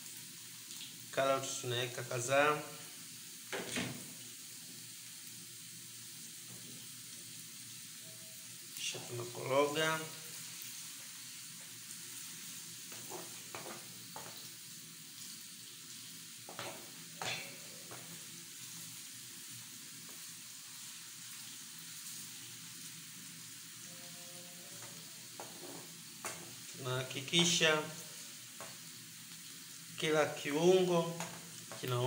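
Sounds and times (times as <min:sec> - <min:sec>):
vegetables sizzling in pan: 0:00.0 - 0:32.0.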